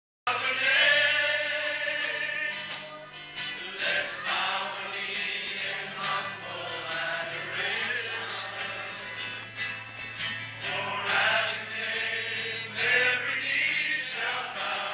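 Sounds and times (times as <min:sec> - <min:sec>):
congregation singing worship song: 0:00.3 - 0:14.9.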